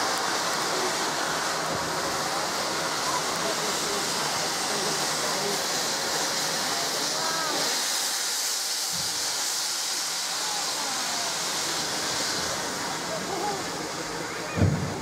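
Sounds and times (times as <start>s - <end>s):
loud hiss of escaping steam: 0.0s - 15.0s
faint crowd chatter: 0.3s - 15.0s.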